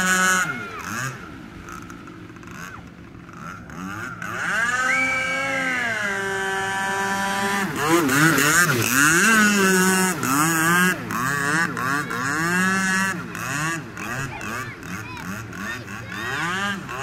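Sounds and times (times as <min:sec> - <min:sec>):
toy speedboat motor running: 0:00.0 - 0:17.0.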